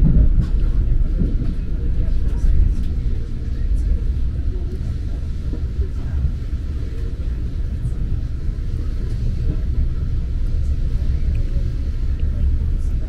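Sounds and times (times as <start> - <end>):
train rumbling from inside: 0.0 - 13.0.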